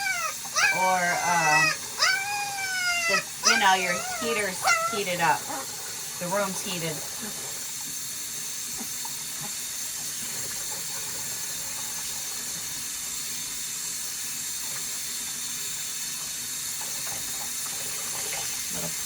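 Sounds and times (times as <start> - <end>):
tap water running into sink: 0.0 - 19.0.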